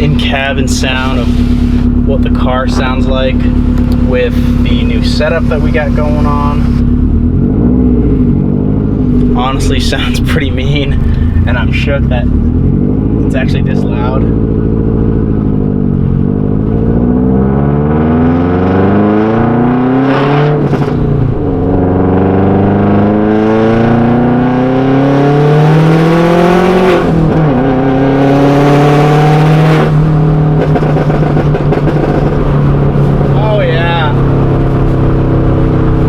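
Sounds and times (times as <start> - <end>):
car engine accelerating from inside: 0.0 - 36.0.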